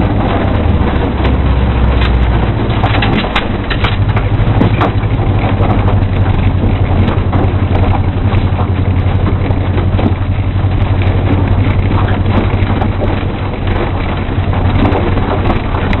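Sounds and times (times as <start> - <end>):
car engine running steadily: 0.0 - 16.0
knocks and rattles: 0.0 - 16.0.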